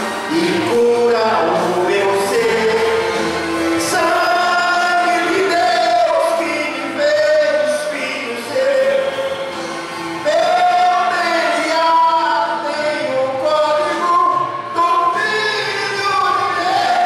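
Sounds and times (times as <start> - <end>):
man singing hymn through pa: 0.0 - 9.6, 10.2 - 17.0.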